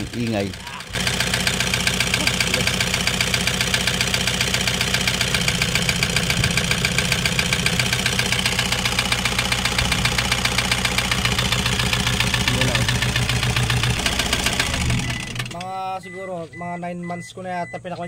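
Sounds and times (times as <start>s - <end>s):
diesel engine idling with rapid knock: 0.0s - 18.0s.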